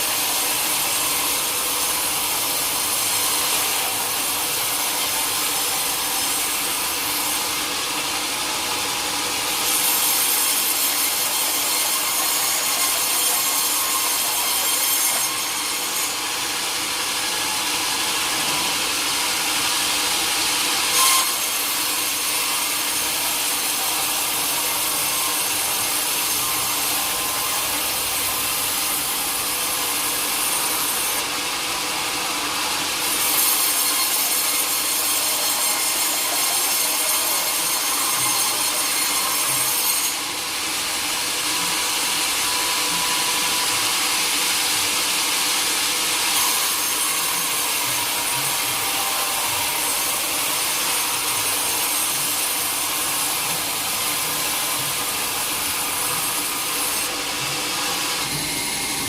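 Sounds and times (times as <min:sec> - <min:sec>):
saw blade cutting log: 0:00.0 - 0:59.0.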